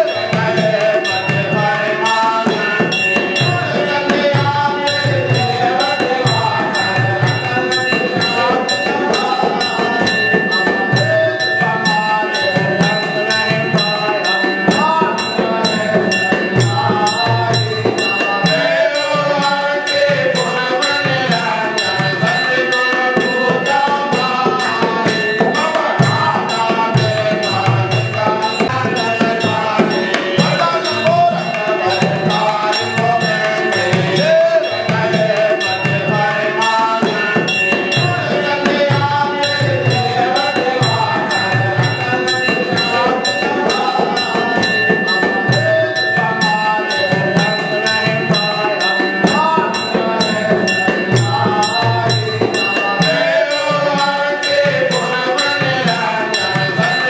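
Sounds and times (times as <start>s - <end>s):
drum beat: 0.0s - 57.0s
group singing: 0.0s - 57.0s
hand percussion: 0.0s - 57.0s.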